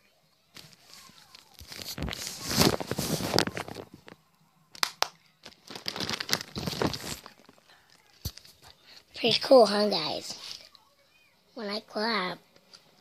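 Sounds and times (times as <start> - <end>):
rustling and handling noise: 0.5 - 11.2.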